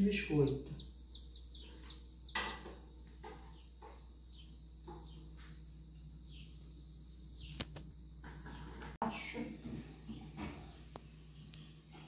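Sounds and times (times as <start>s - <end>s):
birds chirping: 0.0s - 9.4s, 10.0s - 12.0s
low steady hum: 0.0s - 12.0s.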